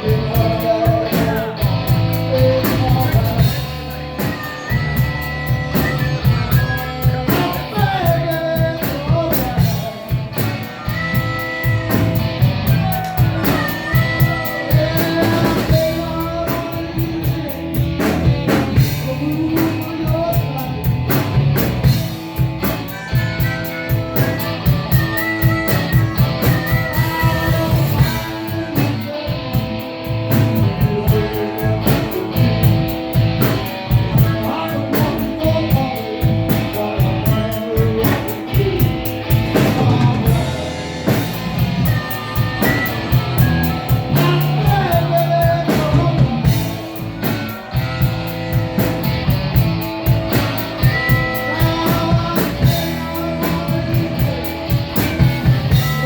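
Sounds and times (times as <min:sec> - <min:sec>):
bass guitar: 0:00.0 - 0:56.0
drum kit: 0:00.0 - 0:56.0
electric guitar with bent notes: 0:00.0 - 0:56.0.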